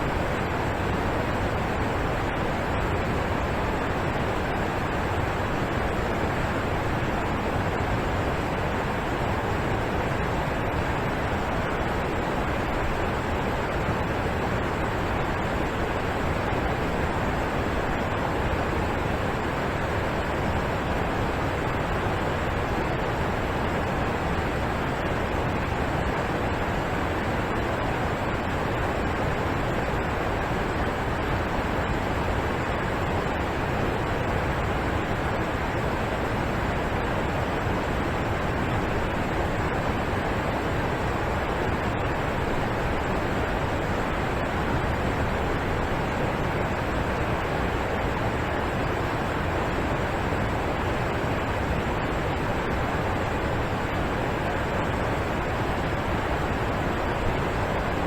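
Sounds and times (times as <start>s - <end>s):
waterfall rushing: 0.1s - 58.0s.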